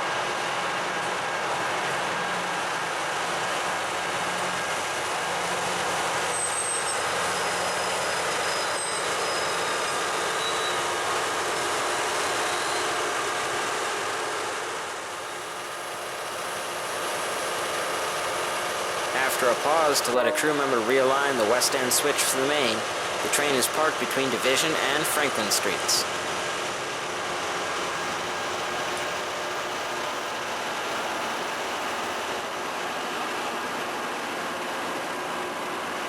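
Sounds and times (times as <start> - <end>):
diesel engine: 0.0 - 36.0
rail wheel noise: 0.0 - 36.0.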